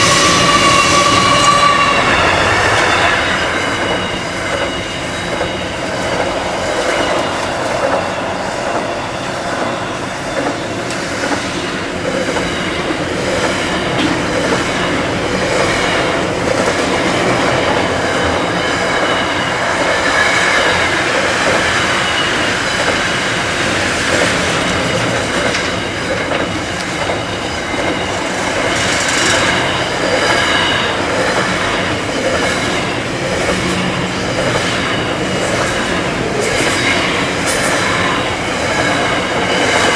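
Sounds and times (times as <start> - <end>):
high wheel squeal: 0.0 - 25.9, 27.4 - 39.9
train wheels rumbling on rails: 0.0 - 39.9
wheels clicking on rails: 0.0 - 39.9.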